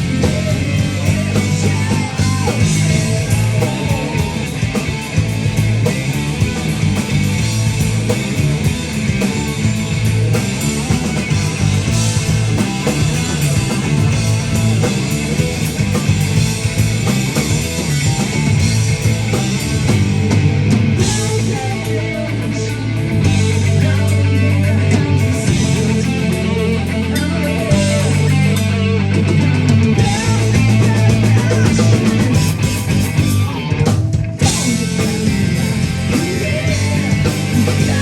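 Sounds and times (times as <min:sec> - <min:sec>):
bass guitar: 0:00.0 - 0:38.0
drum kit: 0:00.0 - 0:38.0
electric guitar: 0:00.0 - 0:38.0.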